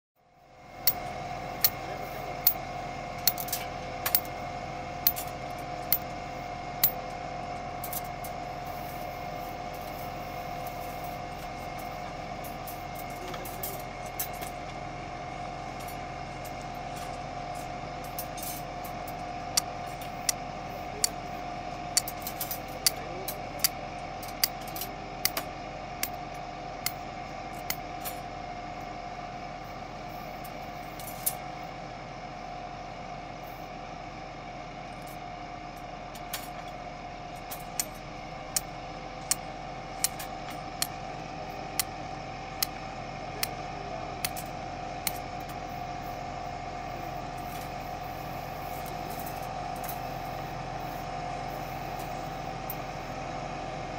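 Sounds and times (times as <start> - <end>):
steady whining tone: 0.2 - 53.9
tractor engine running: 0.3 - 53.9.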